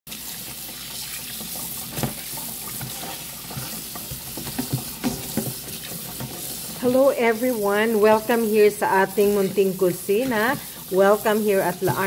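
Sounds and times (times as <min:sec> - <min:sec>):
tap water running: 0:00.1 - 0:12.0
hands rubbing chicken in water: 0:00.4 - 0:12.0.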